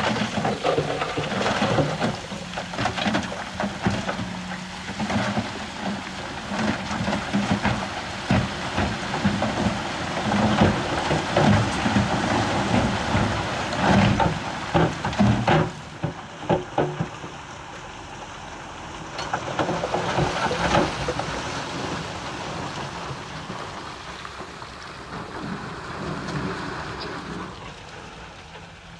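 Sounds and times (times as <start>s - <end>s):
heavy machinery rumbling: 0.0s - 28.9s.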